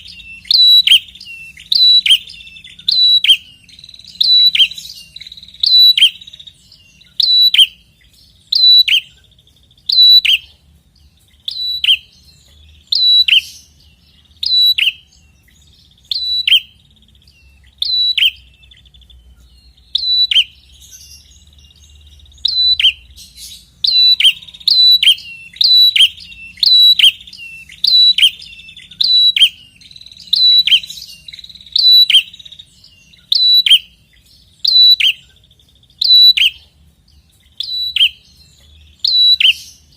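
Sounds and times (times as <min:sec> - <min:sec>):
bird singing sharp falling calls: 0:00.0 - 0:39.9
bird trill: 0:00.0 - 0:39.9.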